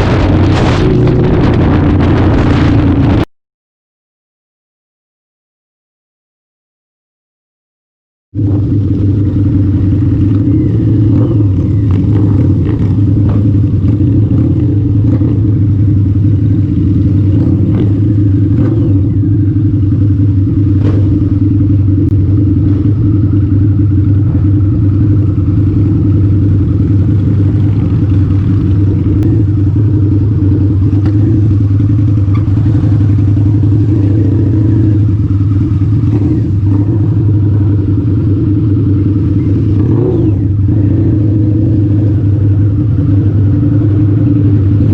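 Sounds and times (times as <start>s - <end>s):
motorcycle engine droning: 0.0s - 3.3s, 8.4s - 44.9s.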